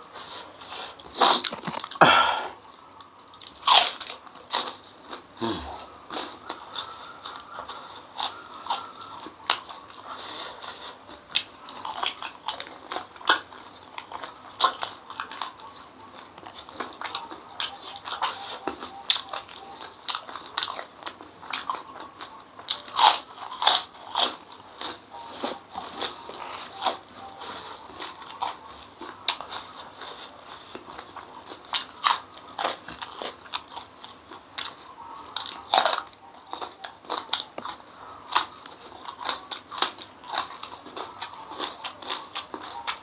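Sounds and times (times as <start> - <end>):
crackers crunching: 0.0 - 43.0
wet chewing: 0.1 - 2.0, 2.7 - 43.0.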